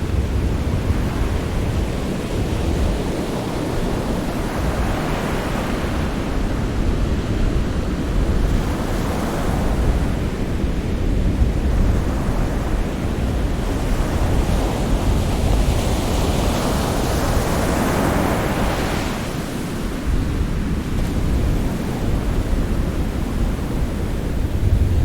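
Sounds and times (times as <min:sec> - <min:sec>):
ocean surf rumbling: 0:00.0 - 0:25.0.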